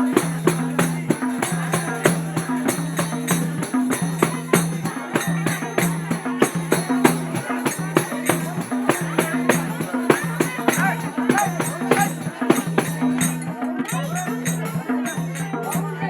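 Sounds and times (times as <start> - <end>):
jingling percussion: 0.0 - 16.0.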